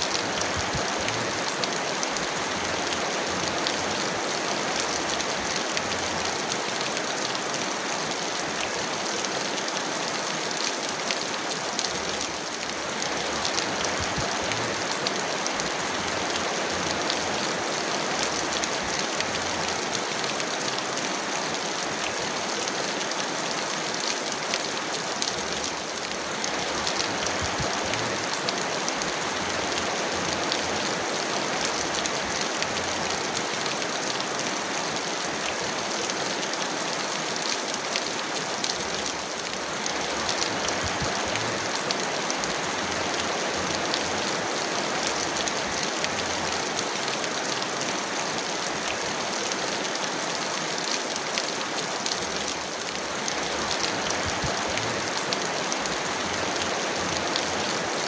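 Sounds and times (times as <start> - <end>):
raindrop ticks: 0.0 - 7.8, 8.4 - 57.9
heavy rain falling: 0.0 - 58.0.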